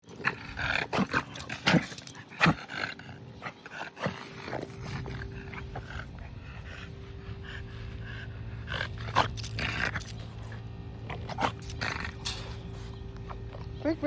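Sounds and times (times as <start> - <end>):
dog snorting breaths: 0.1 - 13.5.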